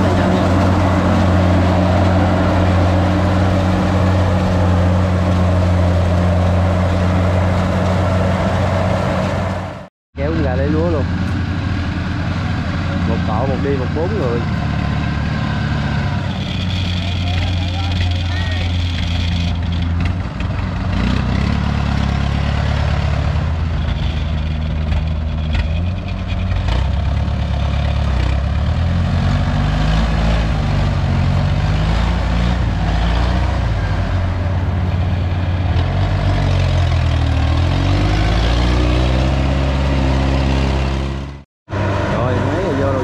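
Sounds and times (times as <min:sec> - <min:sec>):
crawler carrier engine running: 0:00.0 - 0:43.0.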